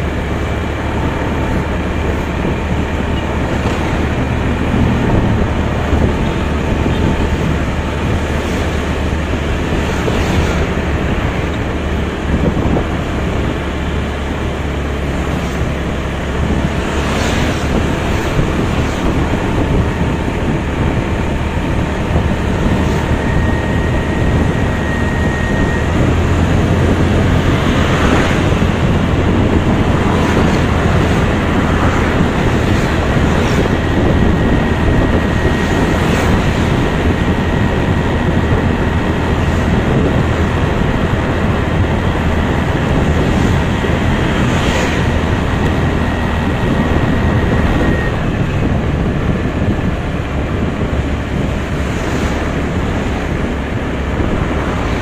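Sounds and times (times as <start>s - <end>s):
motorbike engine humming: 0.0s - 55.0s
thin steady whine: 0.0s - 55.0s
wind rushing over microphone: 0.0s - 55.0s.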